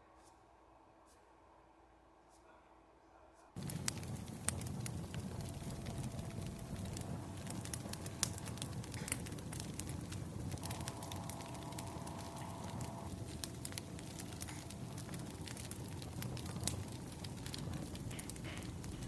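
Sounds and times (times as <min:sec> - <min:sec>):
flames rushing: 0:03.6 - 0:19.0
wood fire crackling: 0:03.6 - 0:19.0.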